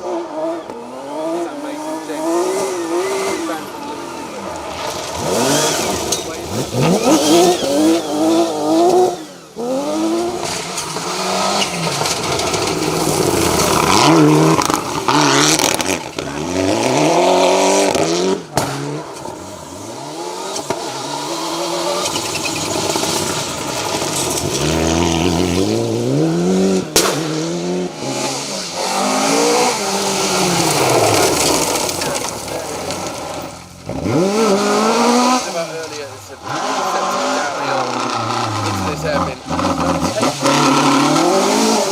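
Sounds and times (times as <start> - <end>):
engines revving hard: 0.0 - 41.9
rally cars passing at speed: 0.0 - 41.9.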